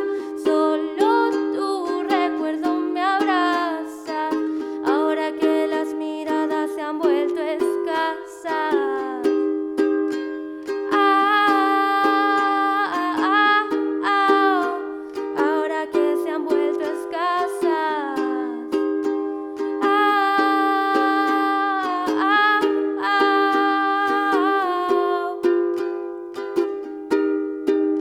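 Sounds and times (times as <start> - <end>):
person singing: 0.0 - 26.6
strummed acoustic string instrument: 0.0 - 28.0.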